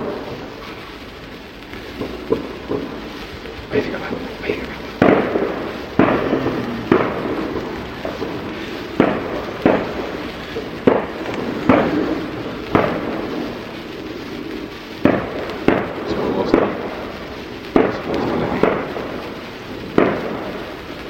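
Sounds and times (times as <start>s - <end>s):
fireworks banging with echo: 0.0s - 21.0s.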